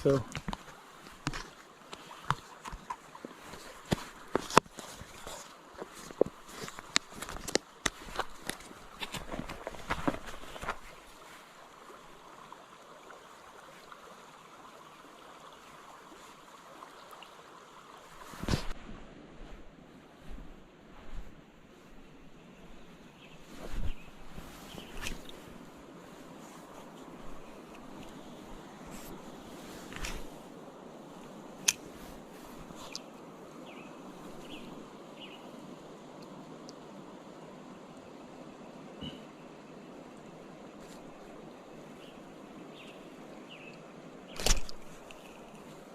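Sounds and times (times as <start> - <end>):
creek water running: 0.0 - 19.0, 19.6 - 45.9.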